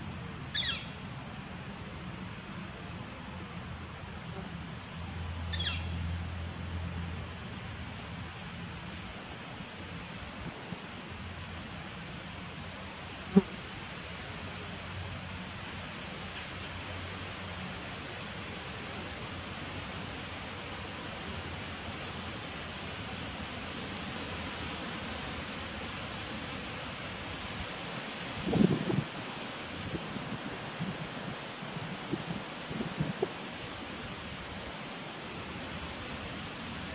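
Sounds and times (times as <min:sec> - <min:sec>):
high-pitched insect trill: 0:00.0 - 0:36.9.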